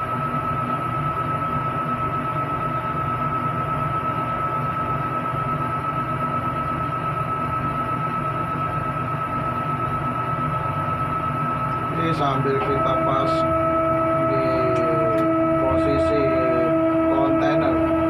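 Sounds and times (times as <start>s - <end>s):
crane machinery hum: 0.0s - 18.0s
high even whine: 0.0s - 18.0s.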